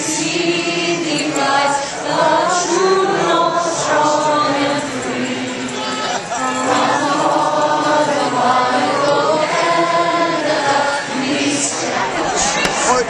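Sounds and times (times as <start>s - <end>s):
large crowd singing: 0.0s - 13.0s.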